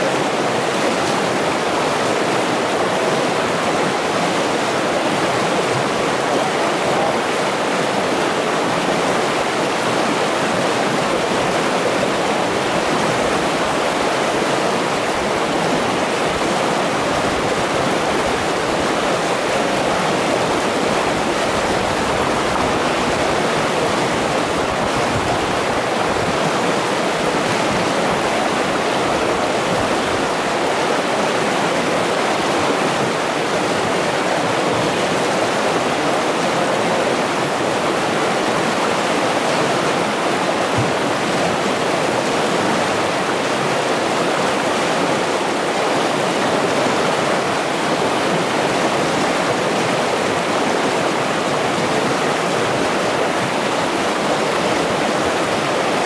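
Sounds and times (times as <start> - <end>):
river rapids rushing over rocks: 0.0 - 56.0.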